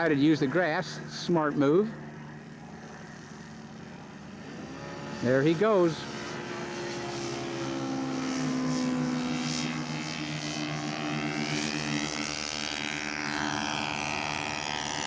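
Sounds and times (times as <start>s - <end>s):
model aircraft engines droning: 0.0s - 15.0s.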